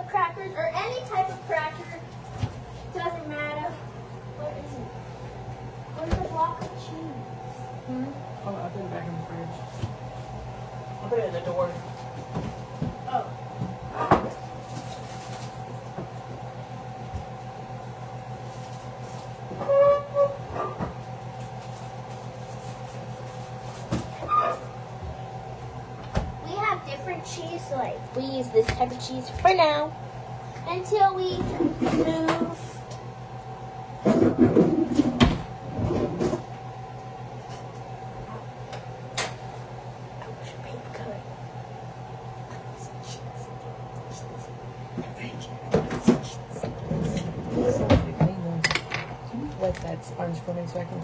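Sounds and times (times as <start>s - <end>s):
kitchen appliance hum: 0.0s - 51.0s.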